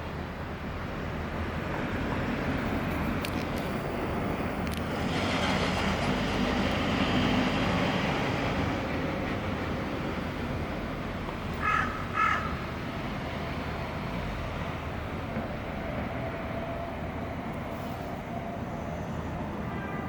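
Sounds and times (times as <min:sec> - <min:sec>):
vehicle rumble: 0:00.0 - 0:19.9.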